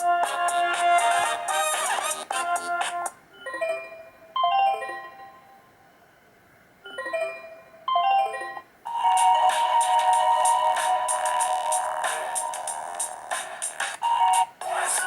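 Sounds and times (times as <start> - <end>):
rhythmic ringtone with held tone: 0.0 - 5.7, 6.9 - 15.0.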